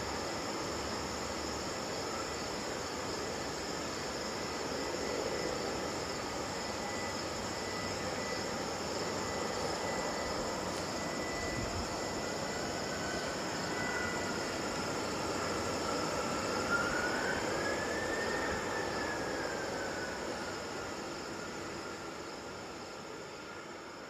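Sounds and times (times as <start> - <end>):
distant jet engines taxiing: 0.0 - 24.0.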